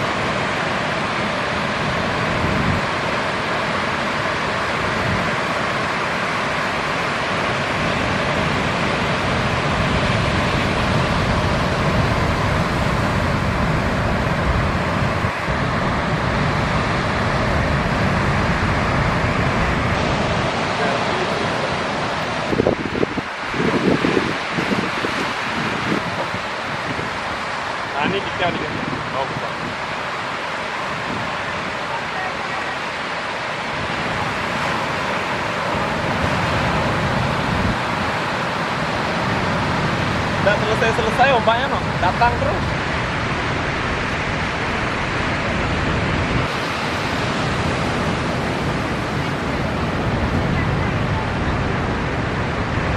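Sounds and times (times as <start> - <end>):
ocean surf breaking: 0.0 - 52.9
wind on microphone: 0.0 - 52.9.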